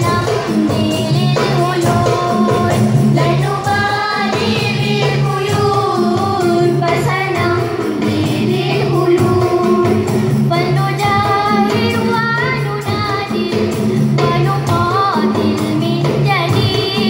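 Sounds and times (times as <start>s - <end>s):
girls singing in unison: 0.0s - 17.0s
hand drums: 0.0s - 17.0s.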